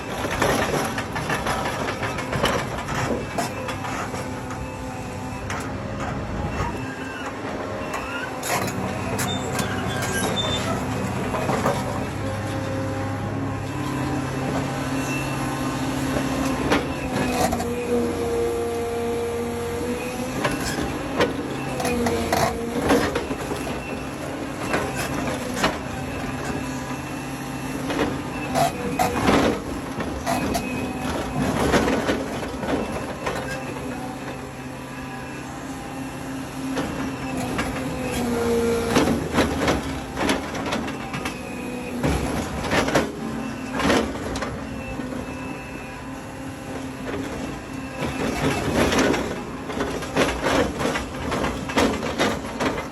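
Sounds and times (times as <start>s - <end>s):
heavy machinery running: 0.0s - 52.9s.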